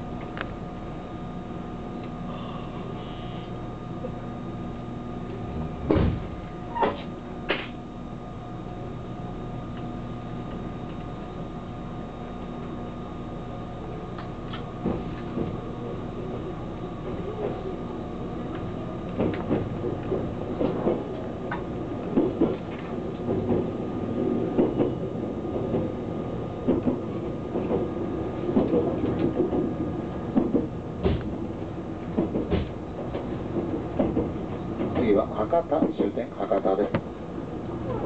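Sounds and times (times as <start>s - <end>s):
train running rumble: 0.0s - 38.0s.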